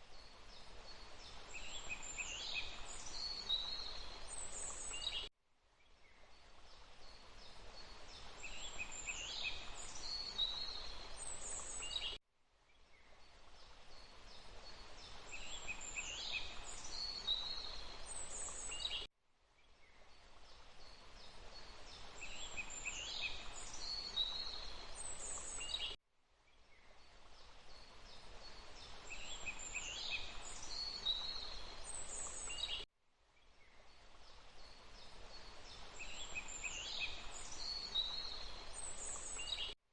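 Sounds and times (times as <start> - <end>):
background hiss: 0.0 - 5.3, 5.9 - 39.8
songbirds chirping: 0.0 - 39.8.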